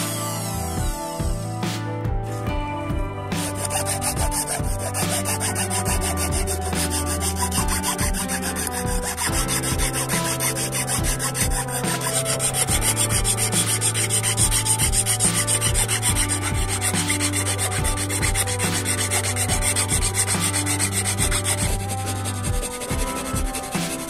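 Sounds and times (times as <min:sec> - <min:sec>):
metal file rasping on wood: 0:03.3 - 0:24.0.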